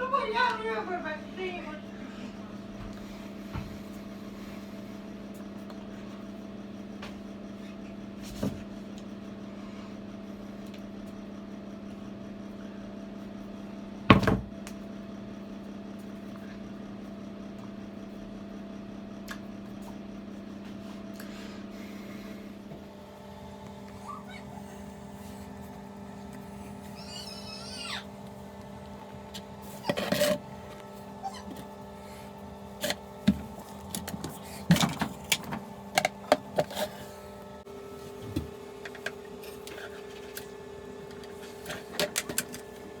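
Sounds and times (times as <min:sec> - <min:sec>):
washing machine humming: 0:00.0 - 0:43.0.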